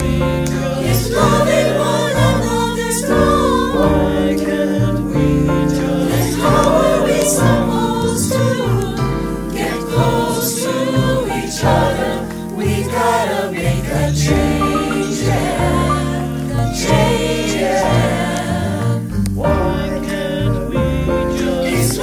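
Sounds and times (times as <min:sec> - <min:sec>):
mixed choir singing: 0:00.0 - 0:22.0.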